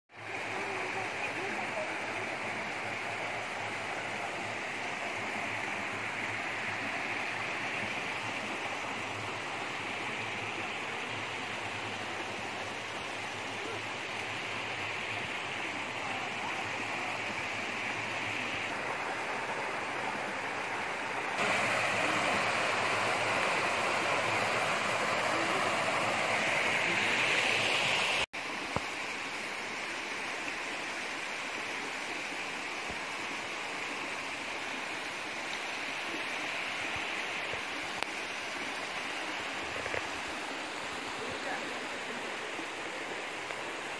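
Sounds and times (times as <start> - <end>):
waterfall splashing over boulders: 0.1 - 43.9.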